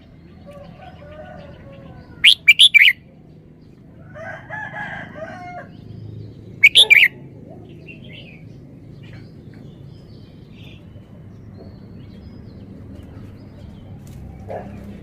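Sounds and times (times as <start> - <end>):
bird singing song phrases: 0.0 - 3.8, 5.3 - 14.9
faint bird chatter: 0.0 - 15.0.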